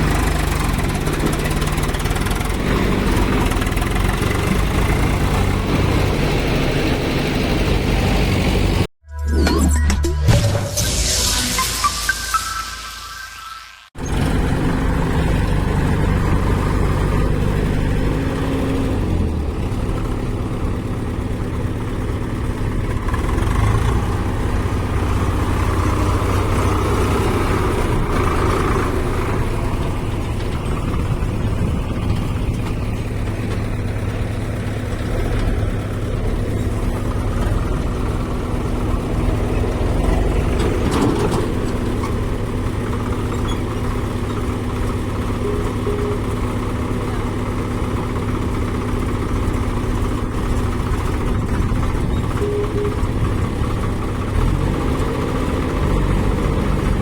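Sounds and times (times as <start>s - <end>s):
heavy diesel engine running: 0.0s - 8.9s, 14.0s - 57.0s.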